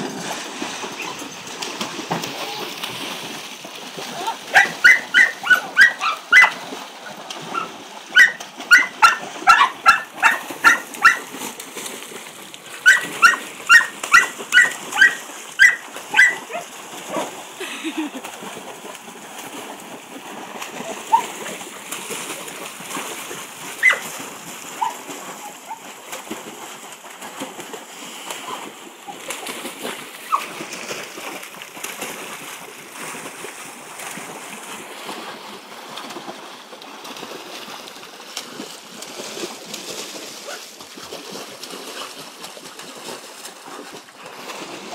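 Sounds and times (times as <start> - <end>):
dogs splashing water: 0.0 - 44.9.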